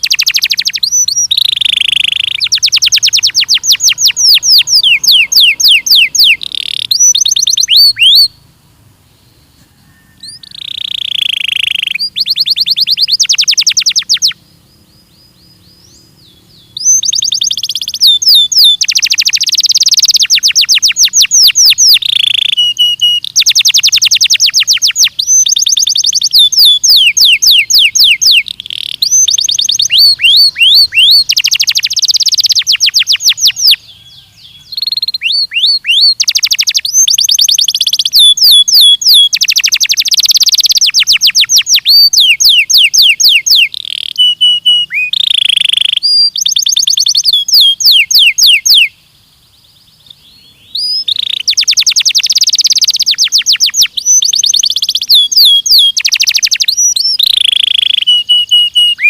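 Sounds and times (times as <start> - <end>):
canary singing trills: 0.0 - 8.5, 9.1 - 59.0.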